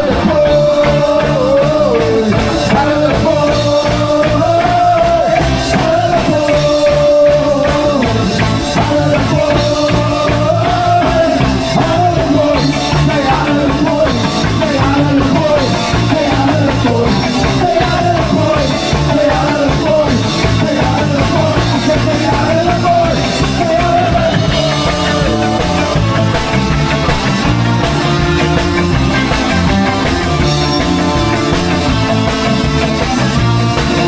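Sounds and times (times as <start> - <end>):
live rock band playing: 0.0 - 34.0.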